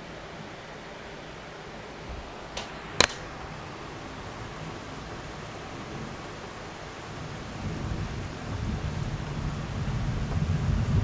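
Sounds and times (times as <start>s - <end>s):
heavy rain: 0.0s - 11.0s
thunder rumbling: 2.0s - 11.0s.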